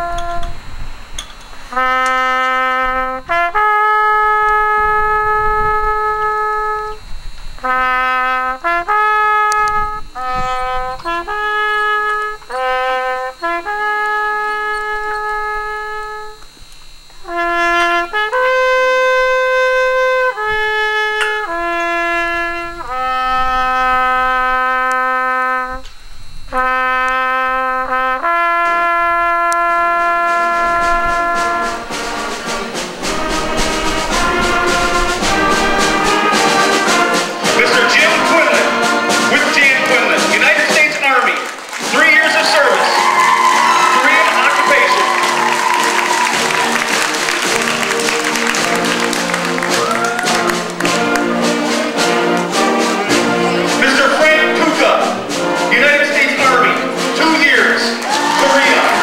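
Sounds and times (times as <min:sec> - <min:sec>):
solo trumpet call: 0:00.0 - 0:00.7, 0:01.6 - 0:59.0.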